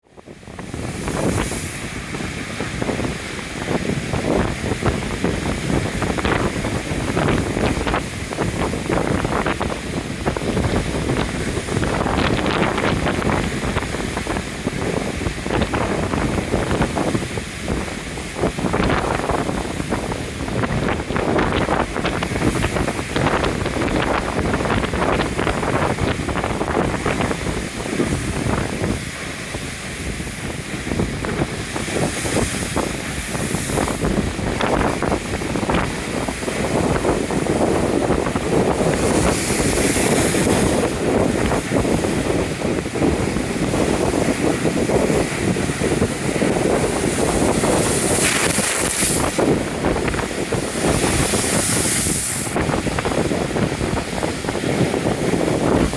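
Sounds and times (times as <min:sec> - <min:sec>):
surf rushing: 0:00.0 - 0:55.9
wind buffeting microphone: 0:00.0 - 0:55.9
waves breaking with spray: 0:00.2 - 0:55.9.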